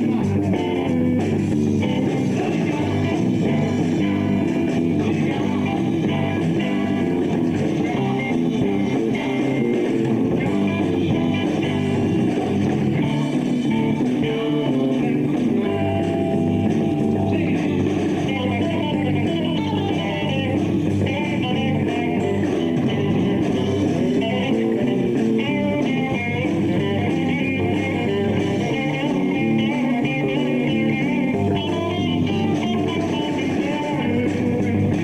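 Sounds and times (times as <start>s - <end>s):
lead guitar line: 0.0s - 35.0s
rock band playing: 0.0s - 35.0s.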